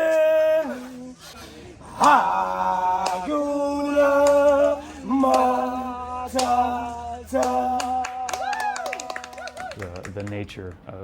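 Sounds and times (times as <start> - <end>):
man singing slow melody: 0.0 - 9.2.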